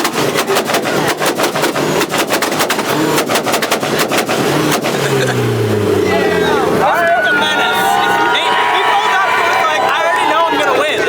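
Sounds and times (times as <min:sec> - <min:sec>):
car engine running: 0:00.0 - 0:11.0
exhaust bangs and pops: 0:00.0 - 0:11.0.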